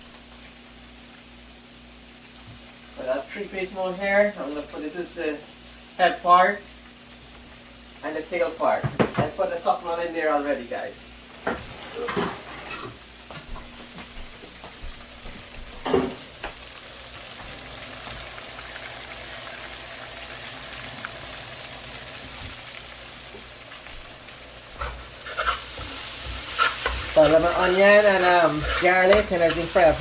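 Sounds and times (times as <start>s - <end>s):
fish frying in a pan: 0.0s - 11.5s, 14.6s - 30.0s.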